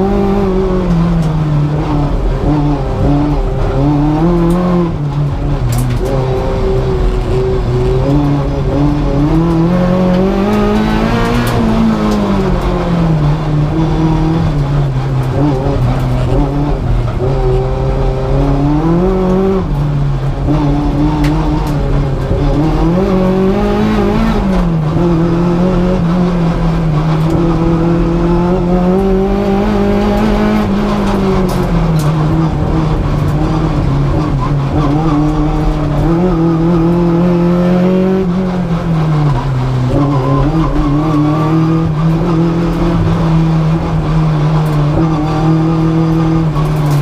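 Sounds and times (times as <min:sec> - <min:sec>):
car engine revving under load: 0:00.0 - 0:47.0.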